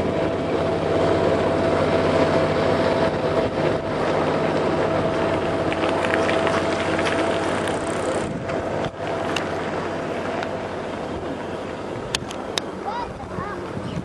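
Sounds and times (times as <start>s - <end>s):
engine humming steadily: 0.0s - 14.0s
outdoor background noise: 0.0s - 14.0s.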